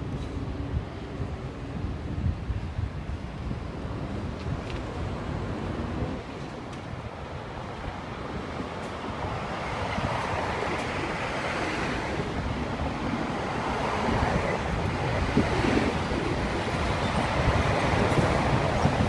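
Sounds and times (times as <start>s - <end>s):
road traffic passing: 0.0s - 19.0s
wind buffeting microphone: 0.0s - 19.0s.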